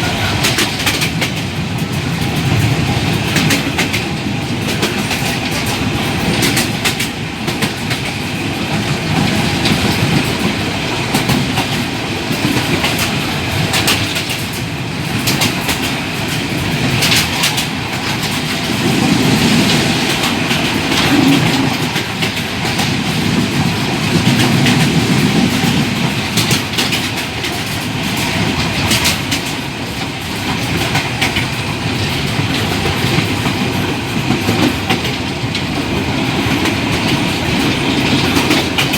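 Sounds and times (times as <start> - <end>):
train cars rumbling: 0.0 - 38.9
wheels clicking on rails: 0.0 - 38.9.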